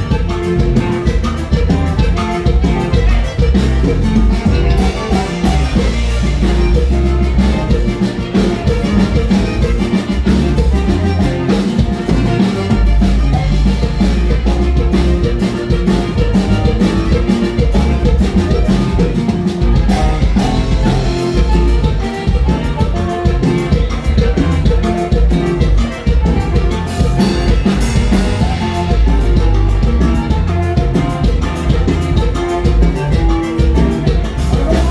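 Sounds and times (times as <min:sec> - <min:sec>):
live band playing: 0:00.0 - 0:34.9.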